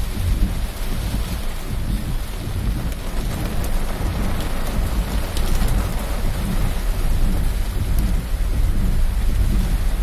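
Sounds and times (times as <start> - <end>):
heavy rain on car roof: 0.0 - 10.0
steady low rumble: 0.0 - 10.0.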